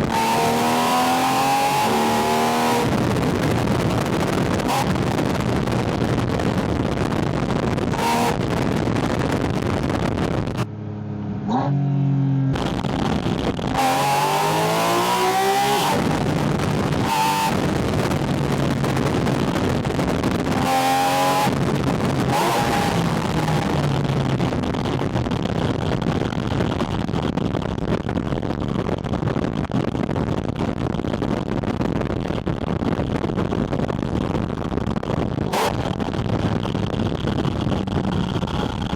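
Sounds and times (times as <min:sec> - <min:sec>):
rushing wind noise: 0:00.0 - 0:11.7, 0:12.4 - 0:38.9
car engine revving: 0:00.0 - 0:27.5, 0:34.1 - 0:38.9.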